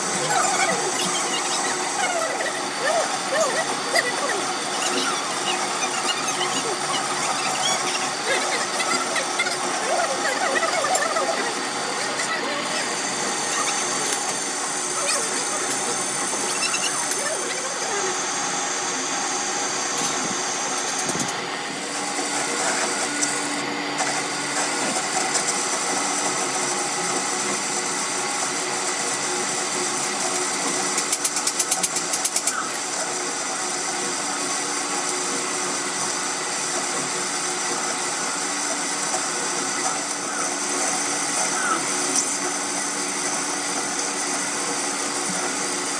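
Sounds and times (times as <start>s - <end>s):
machine running: 0.0s - 45.9s.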